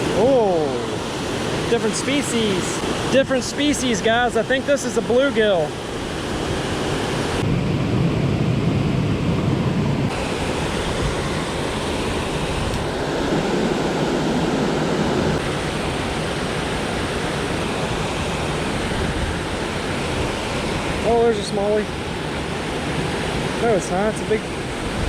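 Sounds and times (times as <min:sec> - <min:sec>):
river water rushing: 0:00.0 - 0:07.4, 0:10.1 - 0:25.0.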